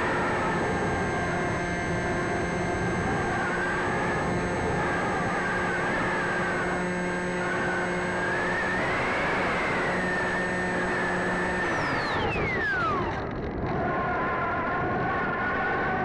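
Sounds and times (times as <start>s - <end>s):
electric motor and propeller whining: 0.0s - 14.1s.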